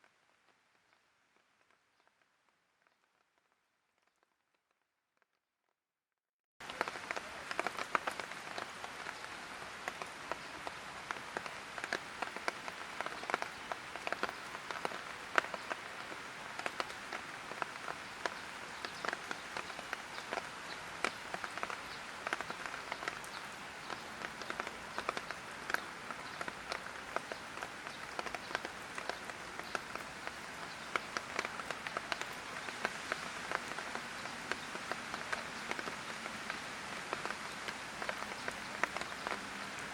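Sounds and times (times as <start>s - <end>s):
light rain falling: 0.0s - 4.6s, 6.6s - 39.9s.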